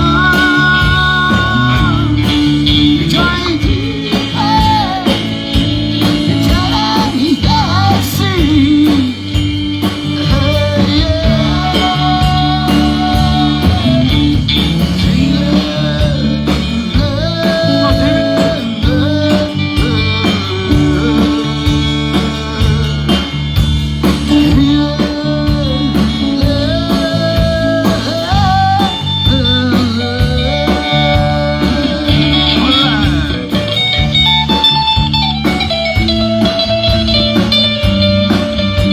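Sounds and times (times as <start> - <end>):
lead guitar line: 0.0 - 38.9
live blues-rock band: 0.0 - 38.9.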